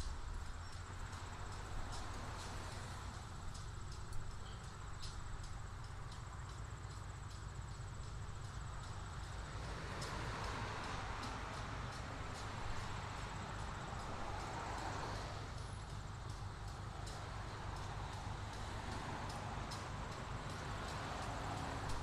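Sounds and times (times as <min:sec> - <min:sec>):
railway car clicking and knocking: 0:00.0 - 0:22.0.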